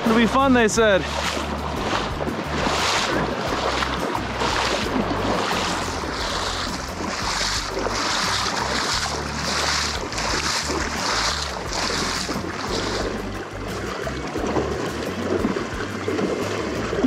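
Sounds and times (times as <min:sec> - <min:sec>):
rushing river water: 0:00.0 - 0:17.0
water splashing from wading: 0:00.0 - 0:17.0.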